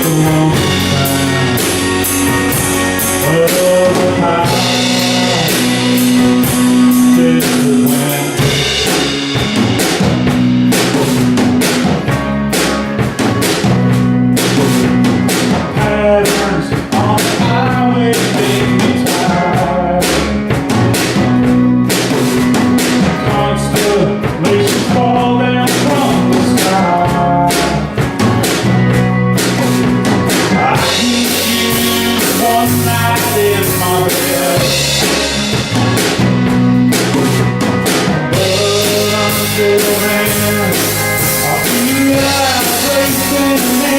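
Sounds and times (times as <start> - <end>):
bass guitar: 0.0 - 43.9
drum kit beat: 0.0 - 43.9
electric guitar: 0.0 - 43.9.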